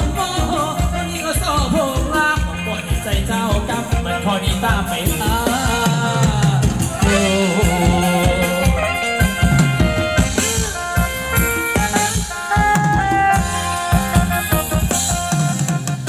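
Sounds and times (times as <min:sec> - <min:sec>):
live band dance music: 0:00.0 - 0:16.0
steady drum beat: 0:00.0 - 0:16.0.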